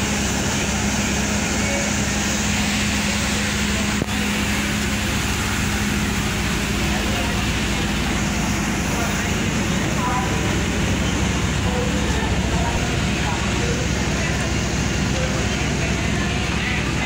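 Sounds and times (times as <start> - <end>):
train engine hum: 0.0 - 17.0
background voices: 1.3 - 17.0.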